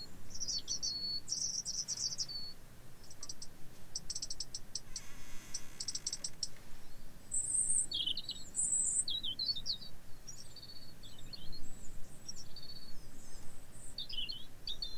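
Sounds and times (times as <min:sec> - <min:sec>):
robin singing: 0:00.0 - 0:14.9.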